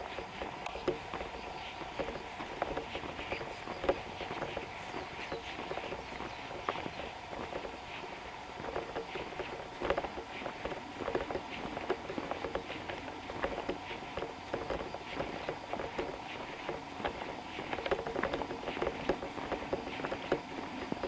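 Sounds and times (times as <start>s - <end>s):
footsteps on paved path: 0.0s - 21.0s
rustle of carried gear: 0.0s - 21.0s.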